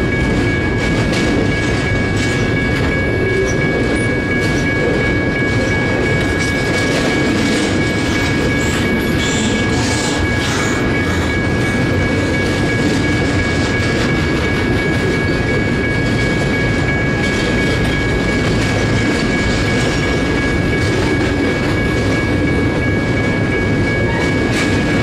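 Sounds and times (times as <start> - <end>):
clickety-clack of rail cars: 0.0 - 25.0
train wheels rumbling on rail: 0.0 - 25.0.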